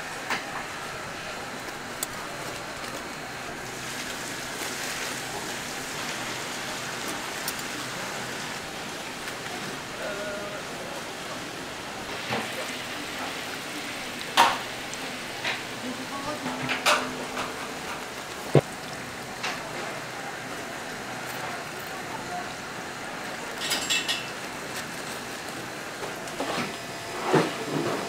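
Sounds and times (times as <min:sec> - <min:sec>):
oil sizzling in deep fryer: 0:00.0 - 0:28.0.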